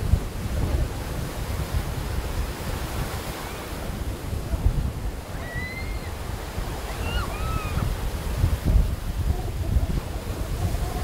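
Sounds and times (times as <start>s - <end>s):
sea surf breaking: 0.0s - 11.0s
wind buffeting microphone: 0.0s - 11.0s.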